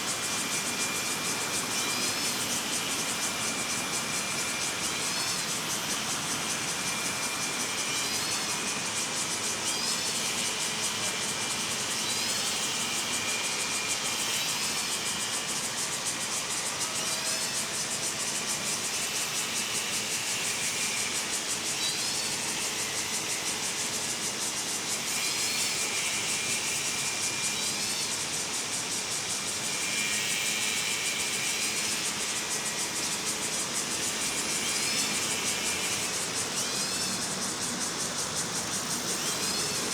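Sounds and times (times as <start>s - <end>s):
cicada chorus drone: 0.0s - 39.9s.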